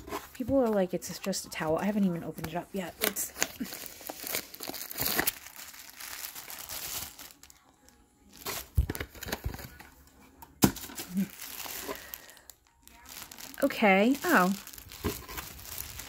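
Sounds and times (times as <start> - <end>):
plastic wrapping crinkling: 2.4 - 9.9, 10.6 - 16.0.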